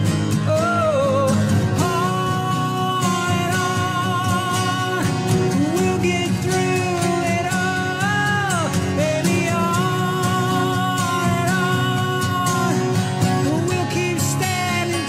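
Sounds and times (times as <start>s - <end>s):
acoustic guitars strummed: 0.0s - 15.0s
man singing long held notes: 0.5s - 15.0s.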